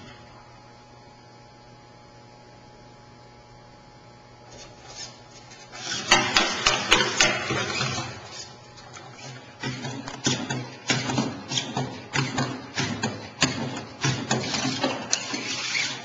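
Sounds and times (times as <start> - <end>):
faint motor hum: 0.0 - 16.0.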